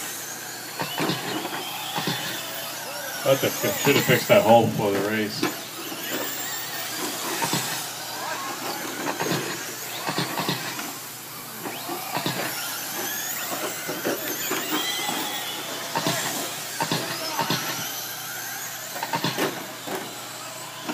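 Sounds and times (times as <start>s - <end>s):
high-pitched motor whine: 0.0s - 20.9s.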